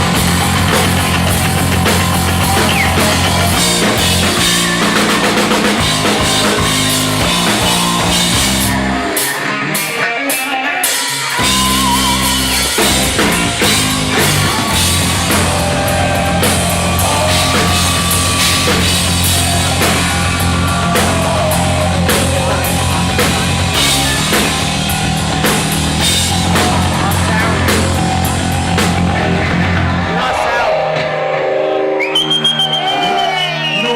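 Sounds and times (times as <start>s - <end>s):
held bass notes: 0.0s - 9.2s, 11.4s - 30.9s
steady drum kit beat: 0.0s - 10.0s, 10.8s - 30.0s
lead electric guitar bending: 0.0s - 31.9s.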